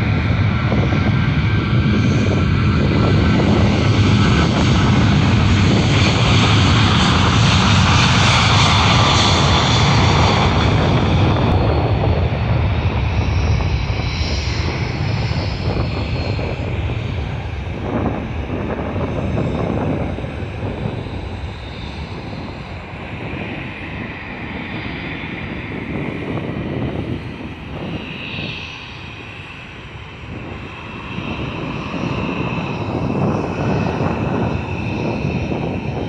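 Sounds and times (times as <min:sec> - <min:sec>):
jet engines at takeoff power: 0:00.0 - 0:36.0.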